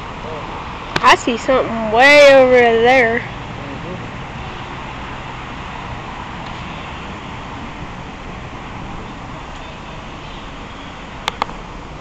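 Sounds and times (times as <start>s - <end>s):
road traffic: 0.0s - 12.0s
wind: 0.0s - 12.0s.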